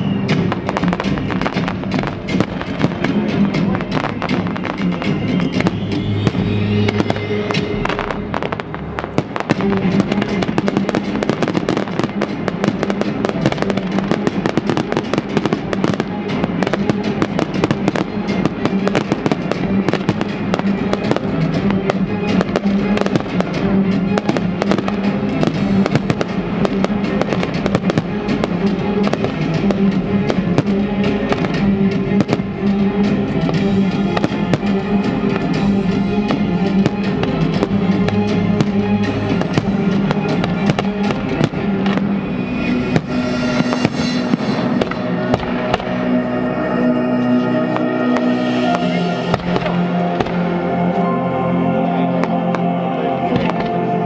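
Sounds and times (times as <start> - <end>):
fireworks bursting and crackling: 0.0 - 46.2, 47.6 - 50.6
loud music: 0.0 - 54.0.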